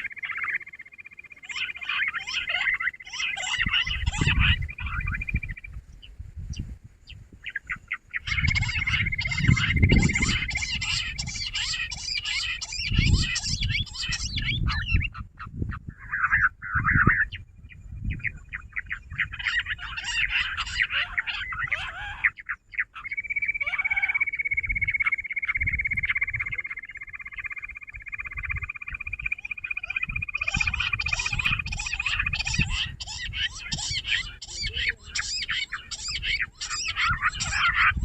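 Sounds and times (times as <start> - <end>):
quail chattering calls: 0.0 - 5.8, 7.4 - 38.0.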